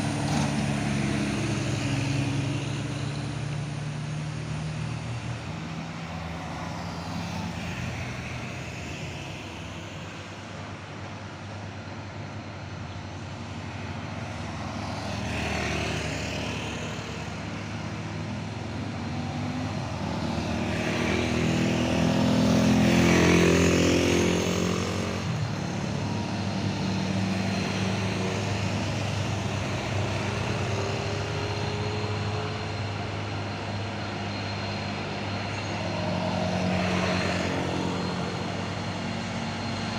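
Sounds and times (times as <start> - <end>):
truck passing close: 0.0 - 10.8, 12.3 - 39.9
trucks labouring uphill: 0.0 - 39.9.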